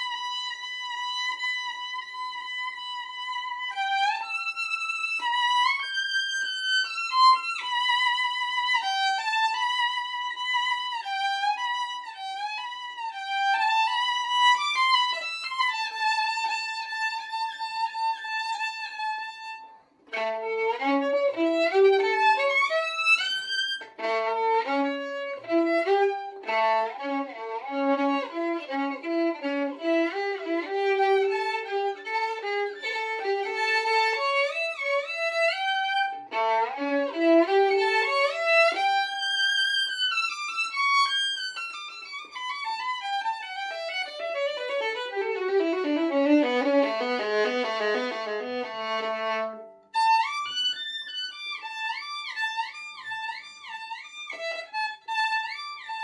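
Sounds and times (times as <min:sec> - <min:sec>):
solo violin: 0:00.0 - 0:56.0.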